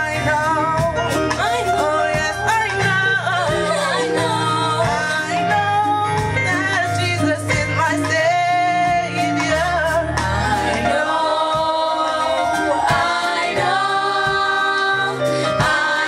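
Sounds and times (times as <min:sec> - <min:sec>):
worship music with singing: 0:00.0 - 0:16.0.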